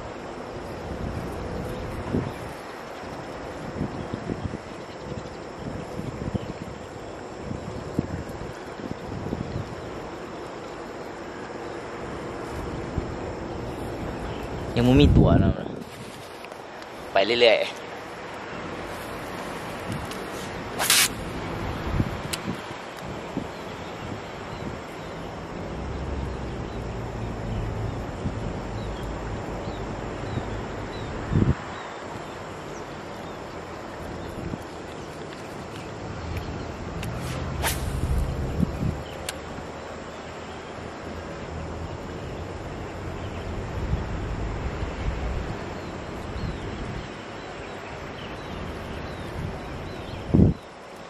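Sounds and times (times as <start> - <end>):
wind buffeting microphone: 0.0 - 50.8
steady outdoor hiss: 0.0 - 51.0.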